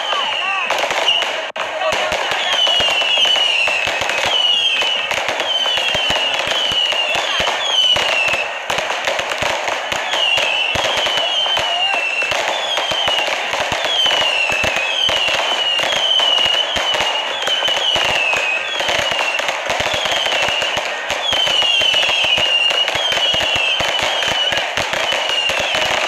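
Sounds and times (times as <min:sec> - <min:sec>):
firework whistle: 0:00.0 - 0:26.0
fireworks crackling and banging: 0:00.0 - 0:26.0.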